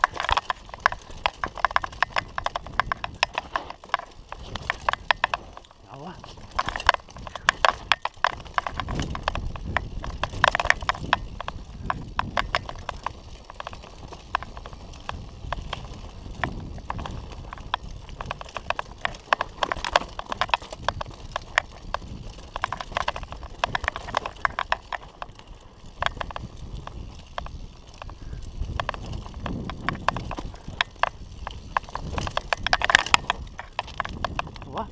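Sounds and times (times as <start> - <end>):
mountain bike rattling on rocks: 0.0 - 34.9.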